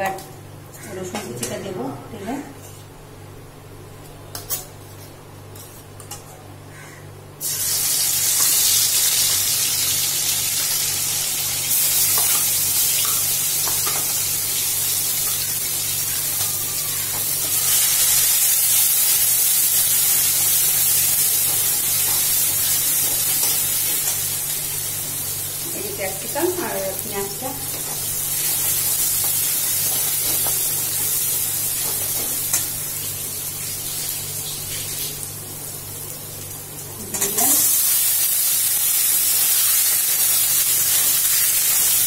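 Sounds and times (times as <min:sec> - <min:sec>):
garlic sizzling in hot oil: 0:07.4 - 0:42.0.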